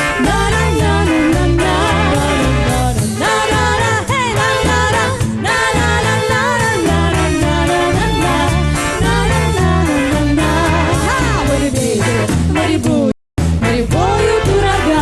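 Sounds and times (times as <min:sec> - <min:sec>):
drums: 0:00.0 - 0:15.0
repeating bass line: 0:00.0 - 0:15.0.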